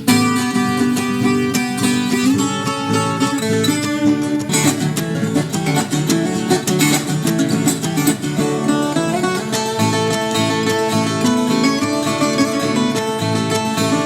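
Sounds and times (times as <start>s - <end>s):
lively acoustic guitar music: 0.0s - 14.0s.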